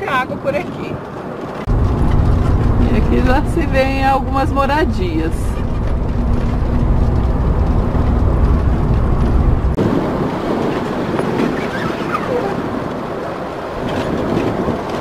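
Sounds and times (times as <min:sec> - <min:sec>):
road rumble: 0:00.0 - 0:15.0
rushing wind: 0:00.0 - 0:15.0
vehicle engine drone: 0:01.3 - 0:15.0.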